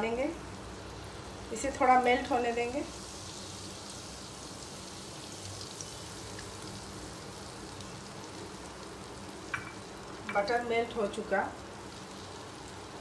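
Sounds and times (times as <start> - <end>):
butter sizzling in a frying pan: 0.0 - 13.0.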